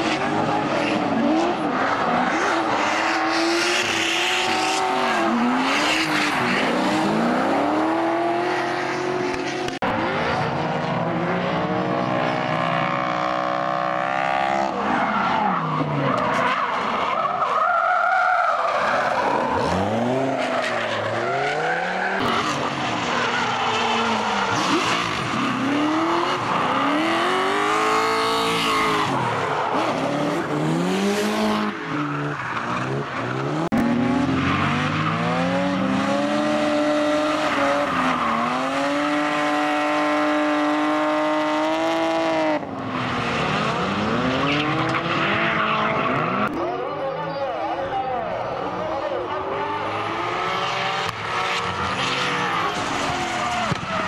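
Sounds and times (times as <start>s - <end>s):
car engines revving: 0.0s - 54.0s
tyres squealing and skidding: 0.0s - 54.0s.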